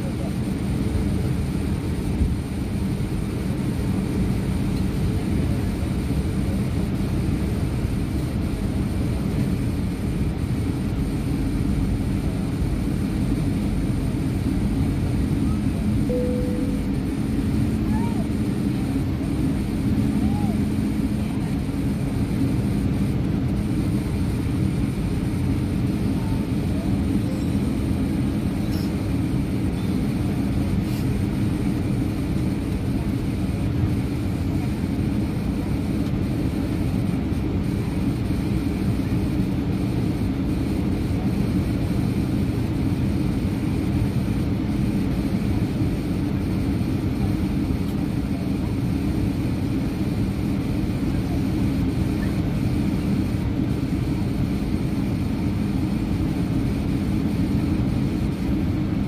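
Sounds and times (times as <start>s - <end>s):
airliner cabin engine rumble: 0.0s - 59.0s
faint steady whine: 0.0s - 59.0s.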